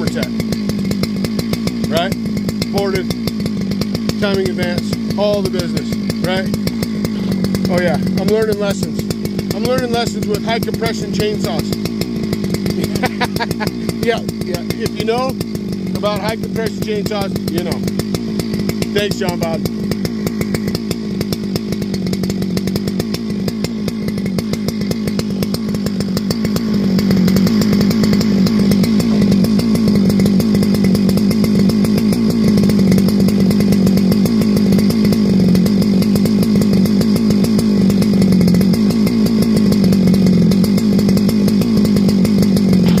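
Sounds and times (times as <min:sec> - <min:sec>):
chainsaw idling: 0:00.0 - 0:43.0.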